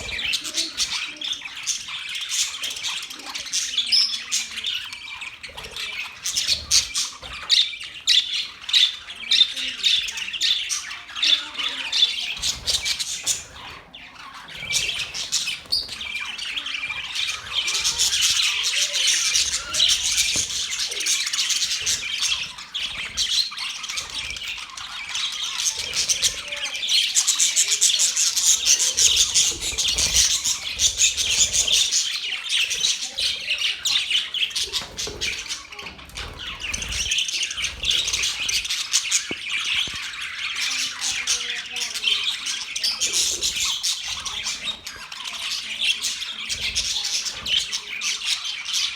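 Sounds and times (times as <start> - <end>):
budgerigars chirping and chattering: 0.0 - 48.9.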